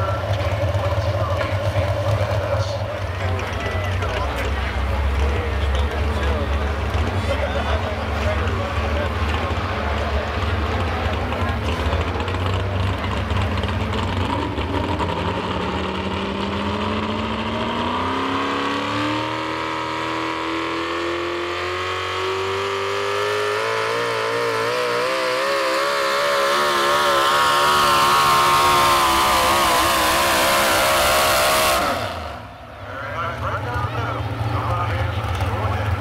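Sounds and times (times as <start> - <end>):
truck engine at full throttle: 0.0 - 36.0.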